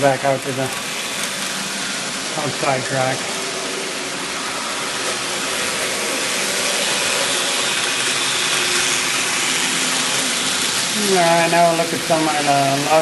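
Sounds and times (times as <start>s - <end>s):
model train motors whirring: 0.0s - 13.0s.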